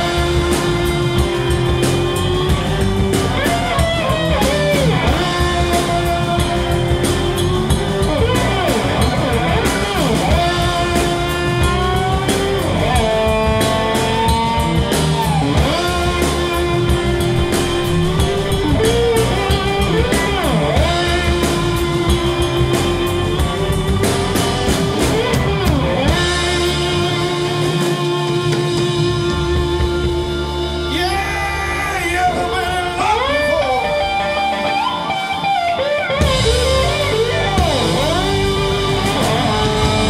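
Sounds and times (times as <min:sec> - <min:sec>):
blues rock band playing: 0:00.0 - 0:40.0
slide guitar: 0:00.0 - 0:40.0.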